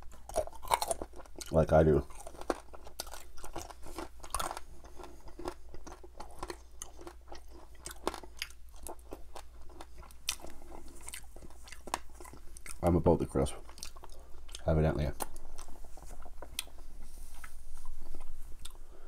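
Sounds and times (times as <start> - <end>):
crunchy chewing: 0.0 - 13.0, 13.6 - 19.0.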